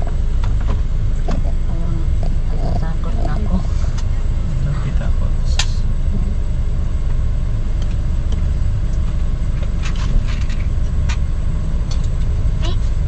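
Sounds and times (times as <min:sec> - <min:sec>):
vehicle rumbling on dirt road: 0:00.0 - 0:13.0.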